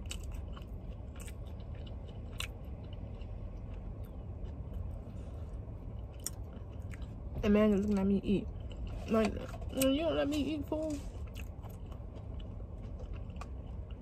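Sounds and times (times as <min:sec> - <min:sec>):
close-up chewing: 0:00.0 - 0:14.0
steady low hum: 0:00.0 - 0:14.0.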